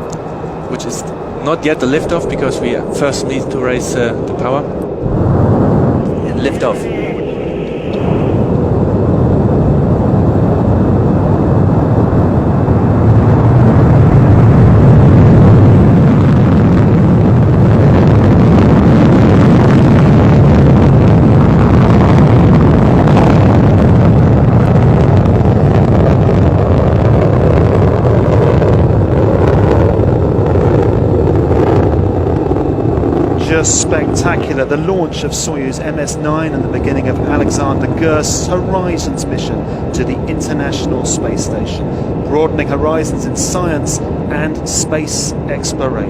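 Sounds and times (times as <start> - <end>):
rocket engine rumble: 0.0 - 46.0.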